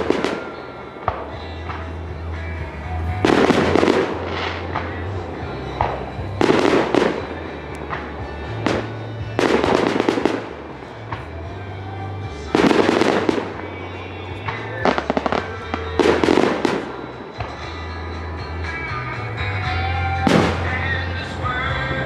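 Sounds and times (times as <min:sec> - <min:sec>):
fireworks bursting: 0:00.0 - 0:18.3, 0:20.0 - 0:22.0
low hum of music: 0:00.0 - 0:22.0.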